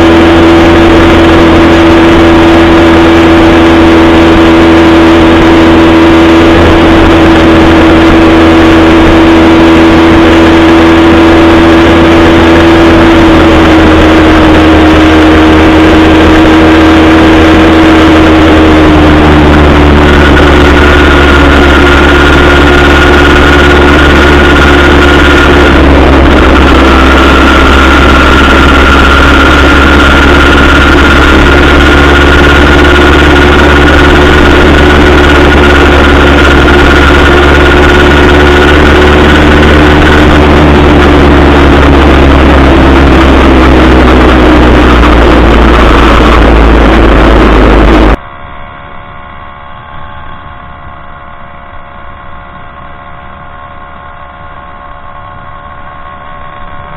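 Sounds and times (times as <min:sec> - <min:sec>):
two-stroke engine running: 0:00.0 - 0:48.4.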